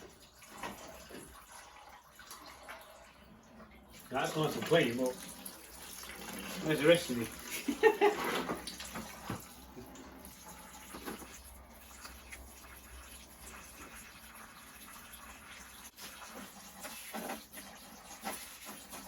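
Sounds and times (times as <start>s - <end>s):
liquid trickling into container: 0.0s - 19.0s.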